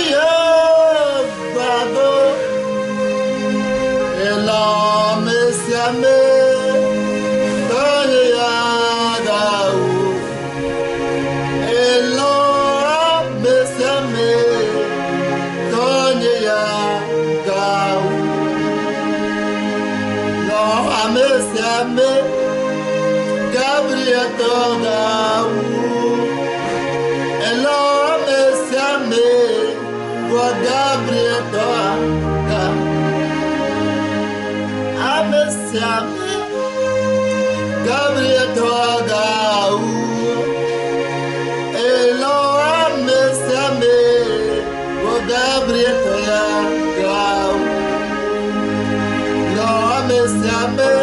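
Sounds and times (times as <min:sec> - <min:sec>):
man singing slow melody: 0:00.0 - 0:18.9, 0:20.4 - 0:33.7, 0:35.0 - 0:48.2, 0:49.4 - 0:51.0
held instrumental notes: 0:00.0 - 0:51.0.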